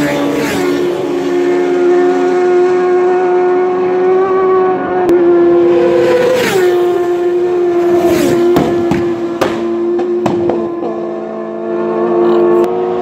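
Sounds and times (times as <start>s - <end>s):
motorcycle engines screaming: 0.0s - 13.0s.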